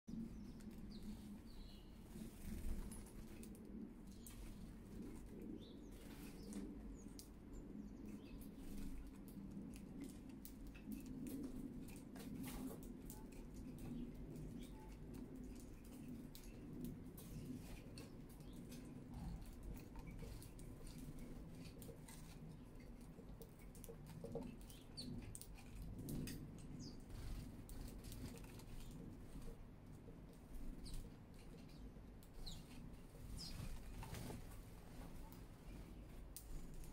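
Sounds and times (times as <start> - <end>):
sparrows chirping: 0.1 - 29.5, 30.3 - 36.9
birds pecking seed clicks: 0.4 - 34.6, 36.3 - 36.9
wings fluttering: 0.4 - 36.9.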